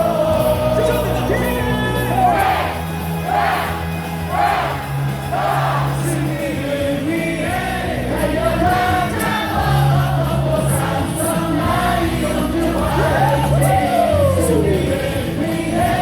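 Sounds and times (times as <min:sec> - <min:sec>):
amplified music: 0:00.0 - 0:16.0
crowd singing in unison: 0:00.0 - 0:16.0.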